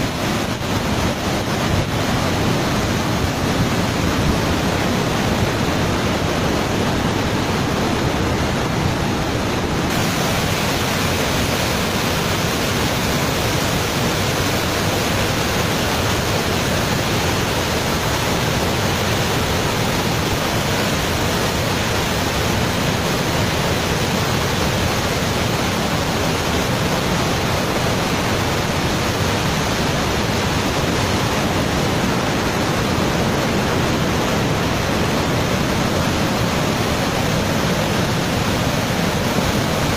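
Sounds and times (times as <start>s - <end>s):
floodwater rushing over waterfall: 0.0s - 39.9s.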